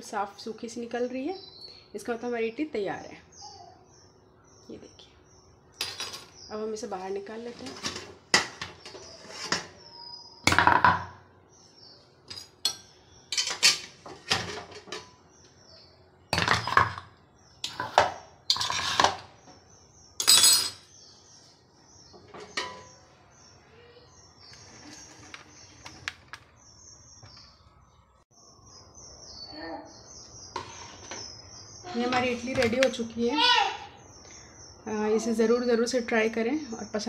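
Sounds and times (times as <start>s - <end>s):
small birds chirping: 0.0s - 7.9s, 8.6s - 10.6s, 11.2s - 37.0s.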